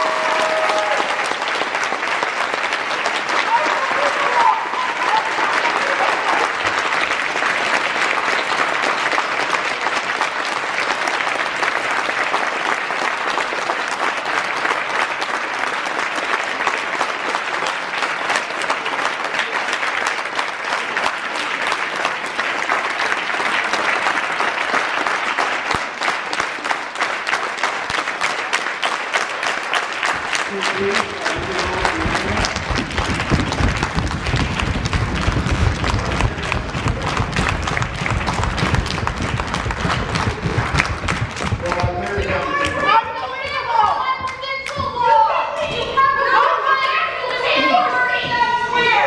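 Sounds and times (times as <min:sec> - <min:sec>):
crowd clapping: 0:00.0 - 0:49.0.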